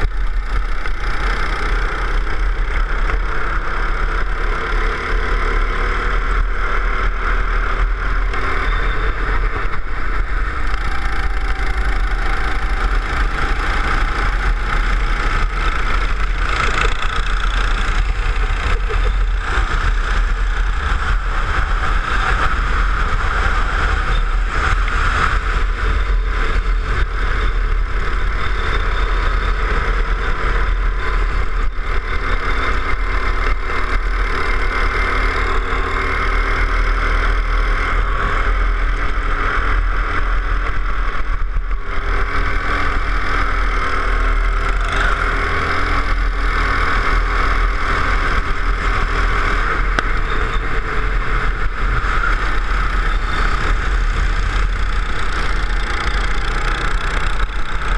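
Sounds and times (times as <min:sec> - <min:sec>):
go-kart engine racing: 0:00.0 - 0:57.9.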